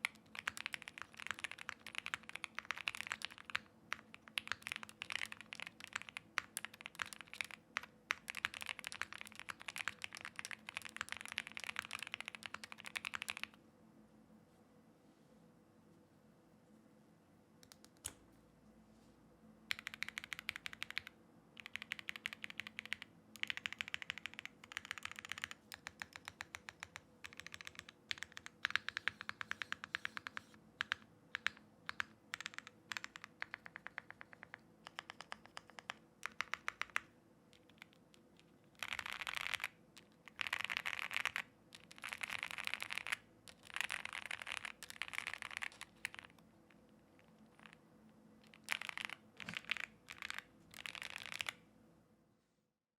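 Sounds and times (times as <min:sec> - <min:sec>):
mechanical keyboard typing: 0:00.0 - 0:13.6, 0:19.7 - 0:46.4, 0:48.4 - 0:51.6.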